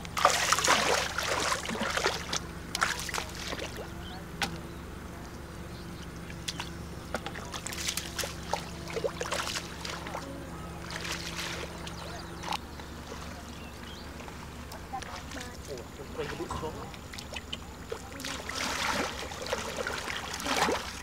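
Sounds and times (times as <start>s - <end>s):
feet wading through water: 0.0s - 4.0s, 6.2s - 21.0s
mud squelching and sloshing: 0.0s - 4.0s, 6.3s - 13.5s, 15.0s - 21.0s
steady low hum: 0.0s - 21.0s.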